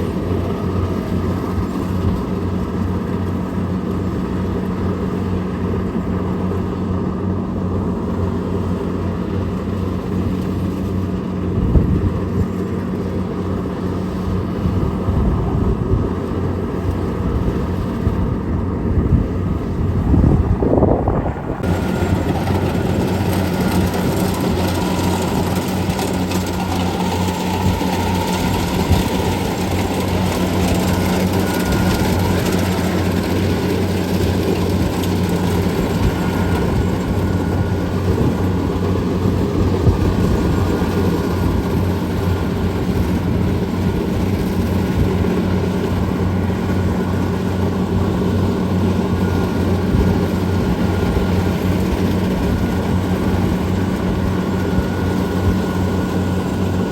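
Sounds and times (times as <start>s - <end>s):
combine harvester machine noise: 0.0s - 56.9s
diesel engine humming: 0.0s - 56.9s.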